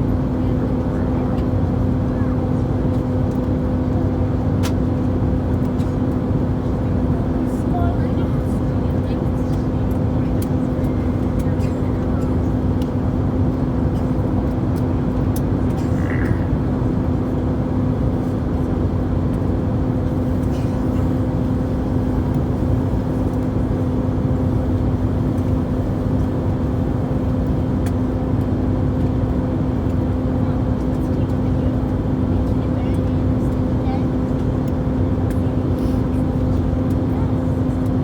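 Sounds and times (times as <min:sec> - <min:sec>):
constant low hum: 0:00.0 - 0:38.0.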